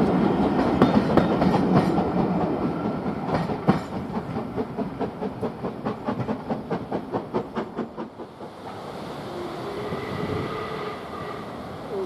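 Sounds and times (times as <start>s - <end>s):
steam train chugging past: 0.0s - 12.0s.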